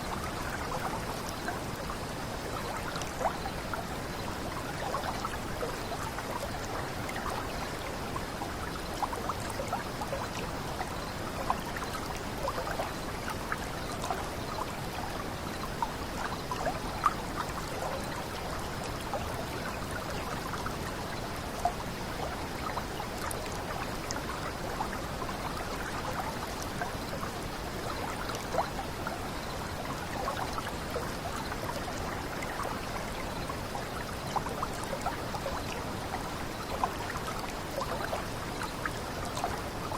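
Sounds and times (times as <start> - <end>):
small water cascade babbling: 0.0 - 39.9.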